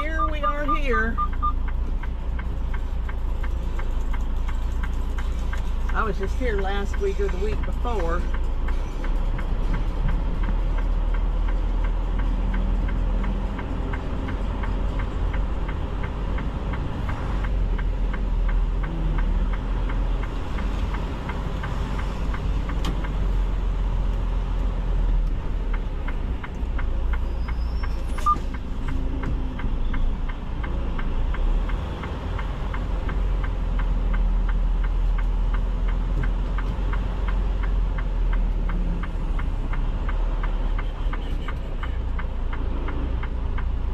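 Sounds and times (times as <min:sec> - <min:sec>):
diesel truck engine running: 0:00.0 - 0:43.9.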